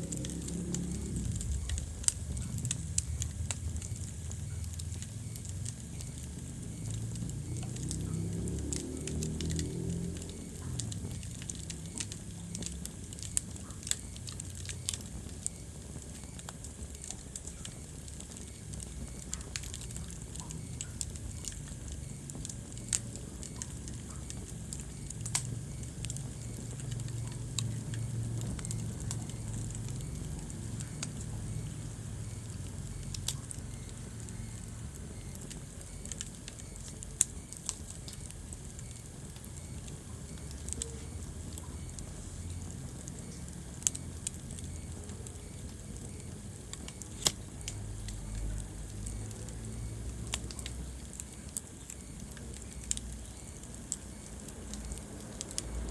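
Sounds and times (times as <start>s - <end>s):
sharp pops of fire: 0.0s - 55.9s
wood fire crackling: 0.0s - 55.9s.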